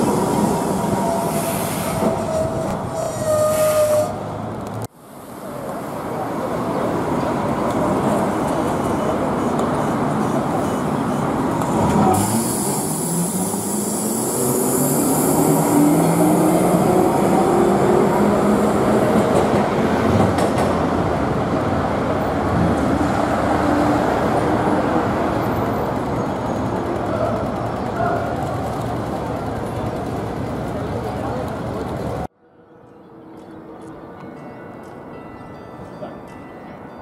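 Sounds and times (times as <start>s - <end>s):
tram drive whine: 0.0s - 37.0s
tram running rumble: 0.0s - 37.0s.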